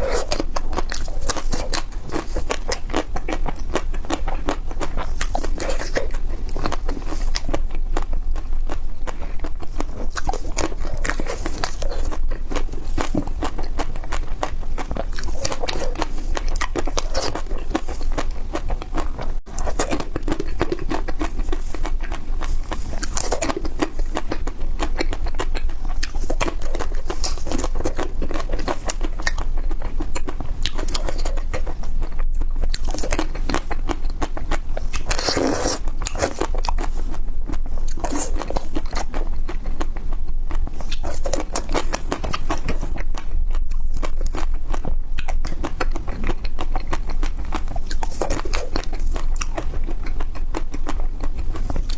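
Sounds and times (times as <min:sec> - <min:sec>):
crunchy biting and chewing: 0:00.0 - 0:51.9.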